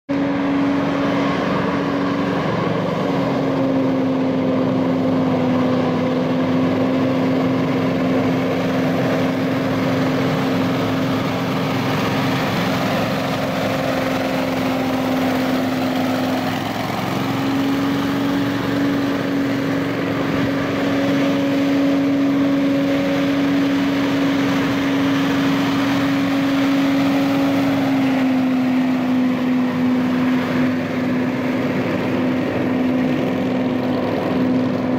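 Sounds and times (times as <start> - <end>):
blower engine humming: 0.1 - 34.9
rush of air: 0.1 - 34.9.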